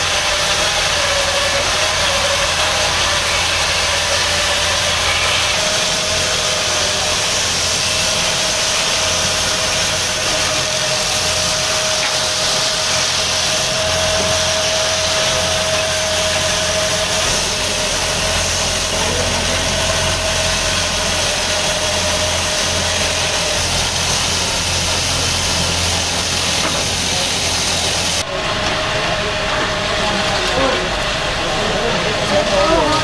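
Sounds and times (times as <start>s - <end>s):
sandpaper hissing on spinning wood: 0.0s - 28.2s
lathe motor hum and whine: 0.0s - 33.0s.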